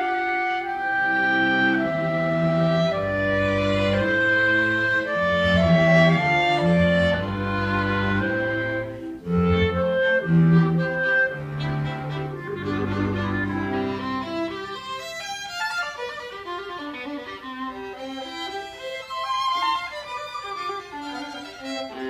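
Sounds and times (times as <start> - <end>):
clarinet: 0.0 - 22.0
violins playing: 0.0 - 22.0.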